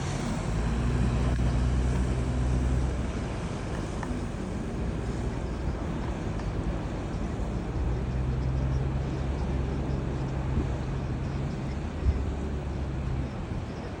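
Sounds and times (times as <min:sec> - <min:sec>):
constant rushing noise: 0:00.0 - 0:14.0
vehicle engine humming: 0:00.0 - 0:14.0.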